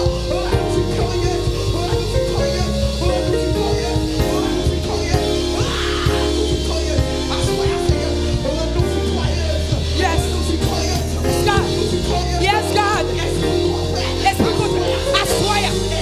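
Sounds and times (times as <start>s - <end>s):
church worship band: 0.0s - 16.0s.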